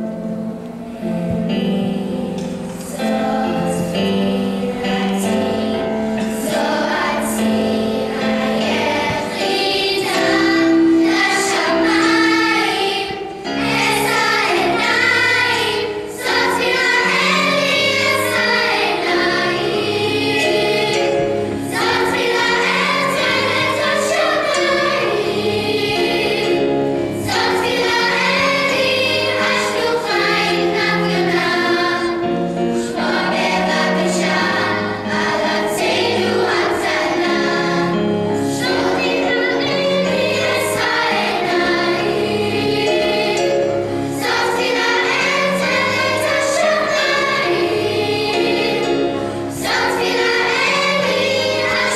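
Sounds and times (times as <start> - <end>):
children's choir singing: 0.0 - 51.9.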